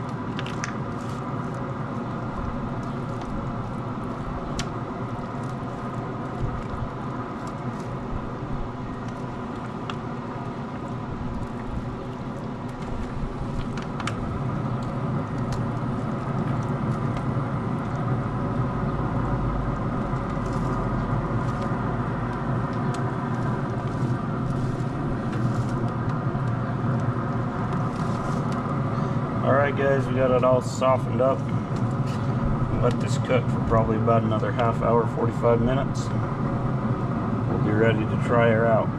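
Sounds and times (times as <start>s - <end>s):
mechanical motor hum: 0.0s - 38.9s.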